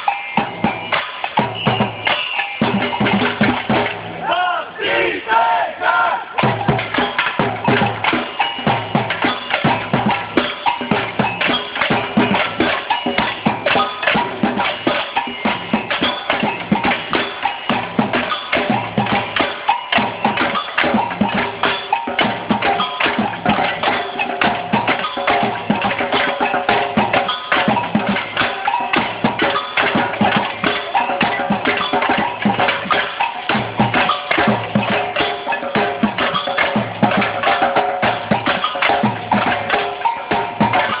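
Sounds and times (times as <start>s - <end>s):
samba percussion band playing: 0.0s - 41.0s.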